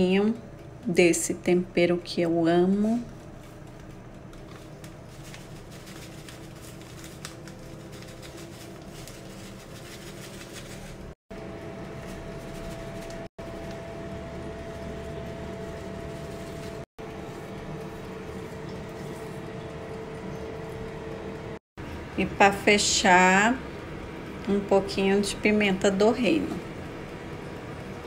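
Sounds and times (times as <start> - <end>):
fan hum: 0.0 - 28.0.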